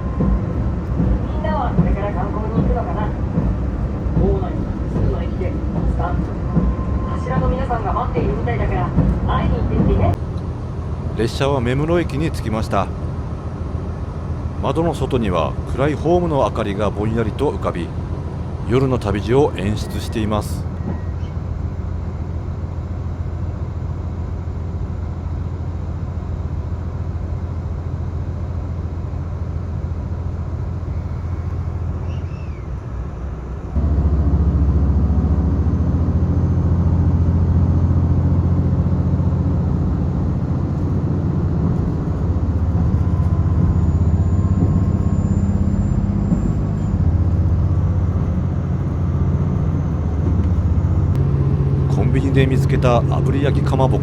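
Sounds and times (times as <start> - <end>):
train engine rumble: 0.0 - 54.0.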